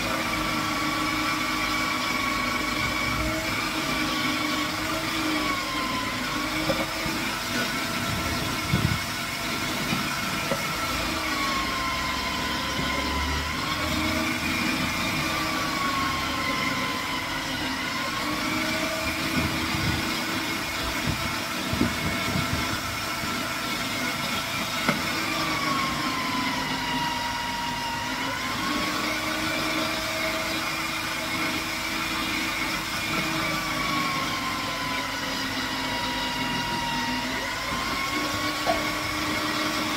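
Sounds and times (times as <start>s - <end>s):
electric grating machine motor whine: 0.0s - 39.9s.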